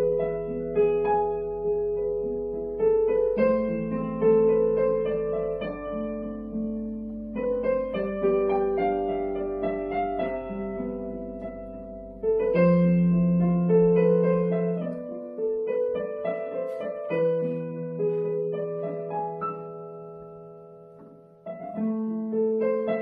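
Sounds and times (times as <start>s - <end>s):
digital piano chords: 0.0s - 23.0s.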